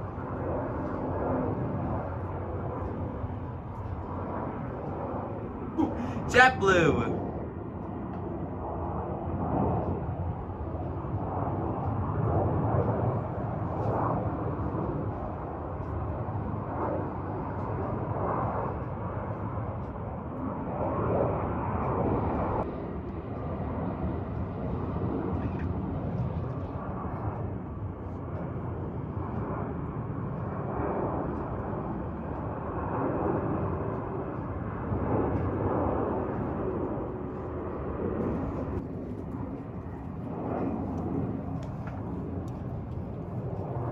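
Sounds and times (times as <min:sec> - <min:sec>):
jet engine rumble: 0:00.0 - 0:43.9.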